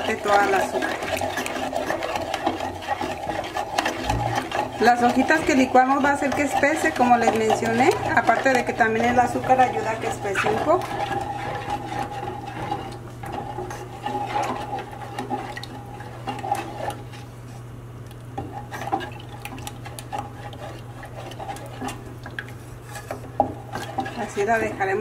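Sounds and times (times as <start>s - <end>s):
spatula scraping and knocking pot: 0.0s - 17.6s, 18.4s - 25.0s
steady low hum: 0.0s - 25.0s
wooden spatula stirring syrup: 0.0s - 25.0s.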